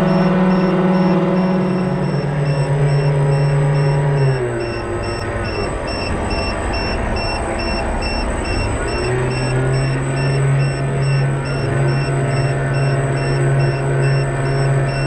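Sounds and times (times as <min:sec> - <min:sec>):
faint high beep: 0:00.0 - 0:15.0
model boat motor whine: 0:00.0 - 0:15.0.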